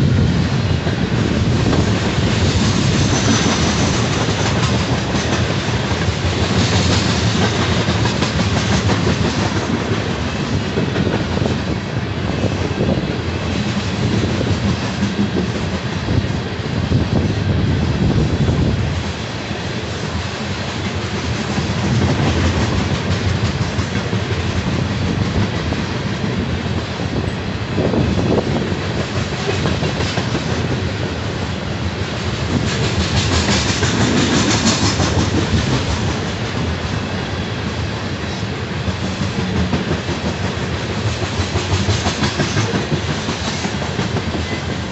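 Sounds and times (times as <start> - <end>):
freight train wheels clattering: 0.0 - 44.9.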